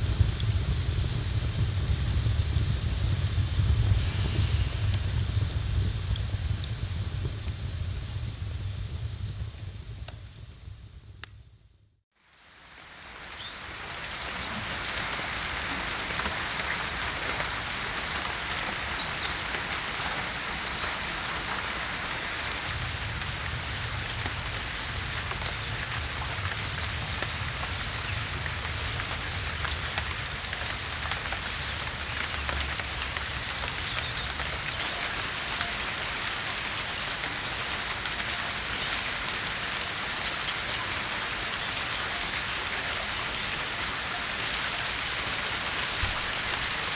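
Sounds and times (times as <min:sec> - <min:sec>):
steady rain falling: 0:00.0 - 0:11.5, 0:12.1 - 0:46.9.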